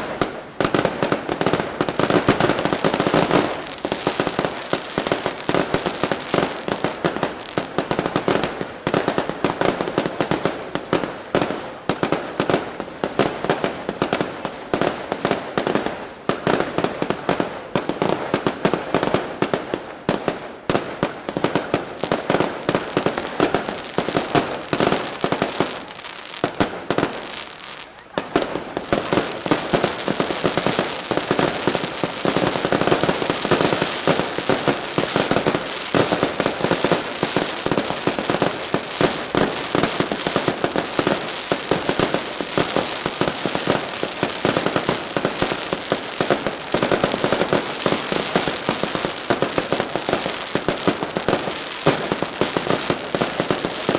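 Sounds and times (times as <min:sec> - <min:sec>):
firecrackers and bangs: 0:00.0 - 0:53.9.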